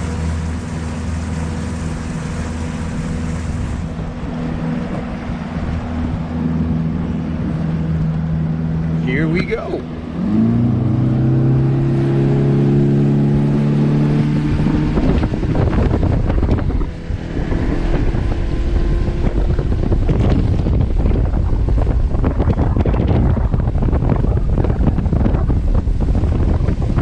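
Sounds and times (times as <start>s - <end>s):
motorboat engine running: 0.0s - 27.0s
rushing water: 0.0s - 27.0s
wind buffeting microphone: 0.0s - 27.0s.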